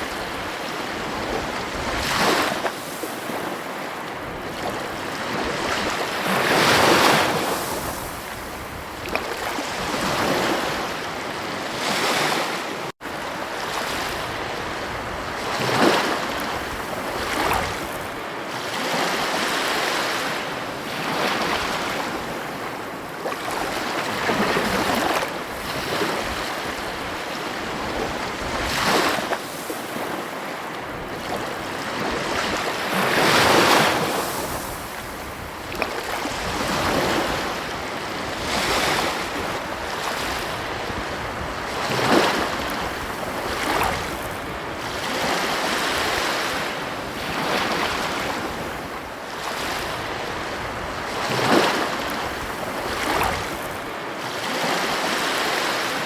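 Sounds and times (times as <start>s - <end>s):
wind on microphone: 0.0s - 18.3s, 19.0s - 55.5s
ocean waves breaking on beach: 0.0s - 56.0s.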